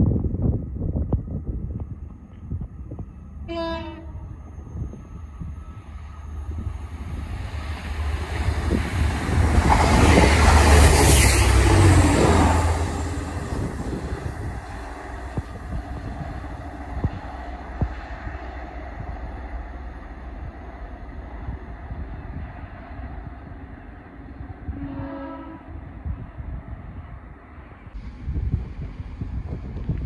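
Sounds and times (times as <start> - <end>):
diesel train engine rumble: 0.0 - 30.0
wheel and rail noise: 0.0 - 30.0.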